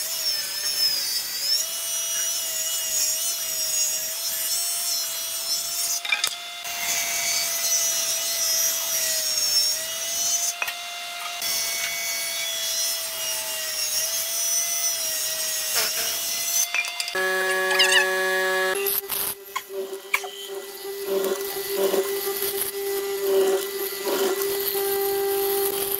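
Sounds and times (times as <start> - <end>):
power tool cutting wood: 0.0 - 25.9.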